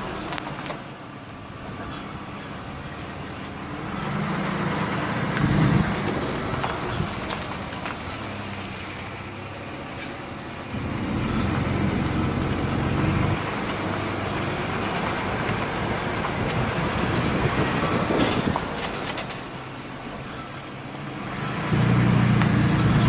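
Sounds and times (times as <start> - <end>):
van engine droning: 0.0 - 23.0.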